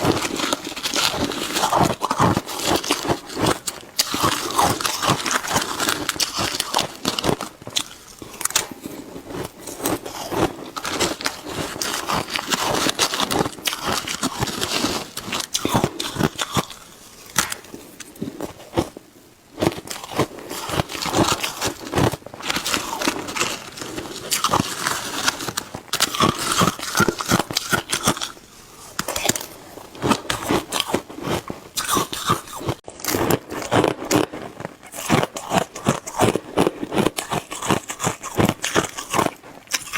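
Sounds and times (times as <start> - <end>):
chewing and crunching ice: 0.0 - 19.0, 19.6 - 39.9.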